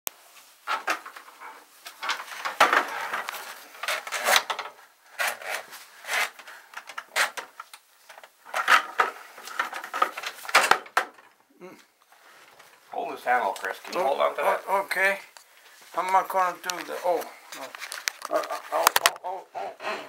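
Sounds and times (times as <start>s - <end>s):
rustling and scraping: 0.2s - 11.4s, 12.0s - 19.2s.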